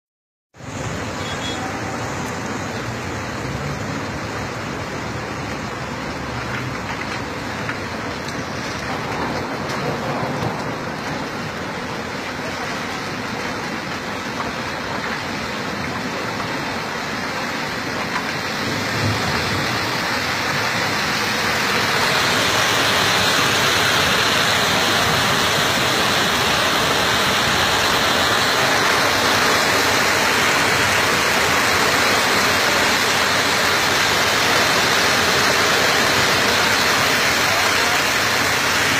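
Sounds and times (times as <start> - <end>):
car tyres on wet road: 0.5 - 38.9
rain: 0.5 - 38.9
floodwater rushing: 0.6 - 38.9.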